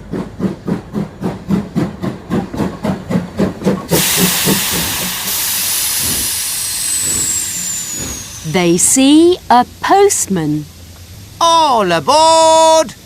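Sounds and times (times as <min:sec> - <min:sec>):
steam hissing: 0:00.0 - 0:13.0
steam locomotive chuffing: 0:00.0 - 0:13.0.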